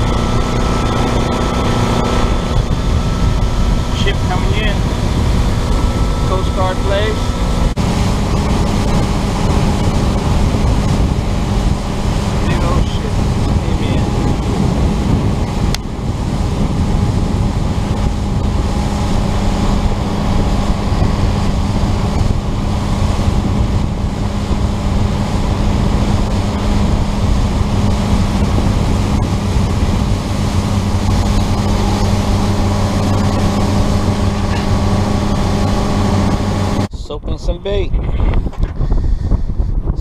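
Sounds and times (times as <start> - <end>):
motorboat engine humming: 0.0 - 36.9
water rushing past hull: 0.0 - 36.9
wind on microphone: 0.0 - 40.0.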